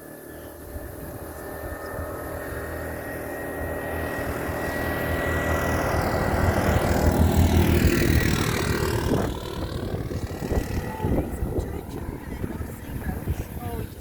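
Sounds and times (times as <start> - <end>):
motor vehicle passing: 0.0 - 14.0.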